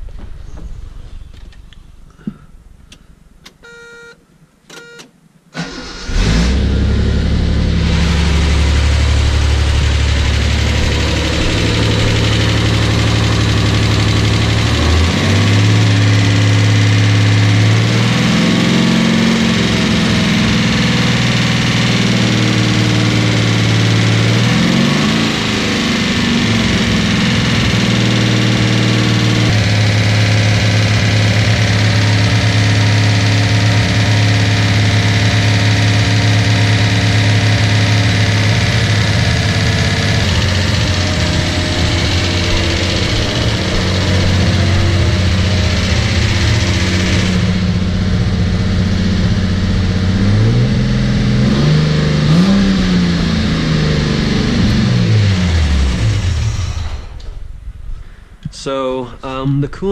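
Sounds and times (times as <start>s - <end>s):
car engine running and revving: 5.8s - 57.7s.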